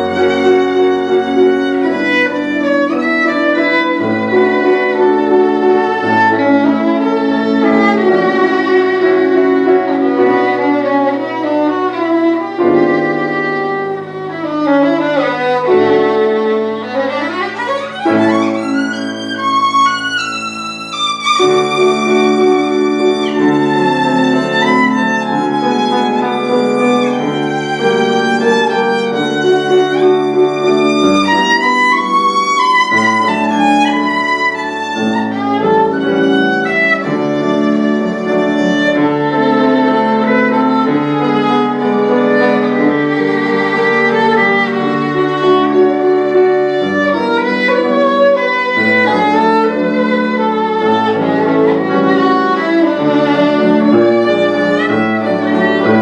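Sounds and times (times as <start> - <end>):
piano accompaniment: 0.0 - 56.0
solo violin melody: 0.0 - 56.0.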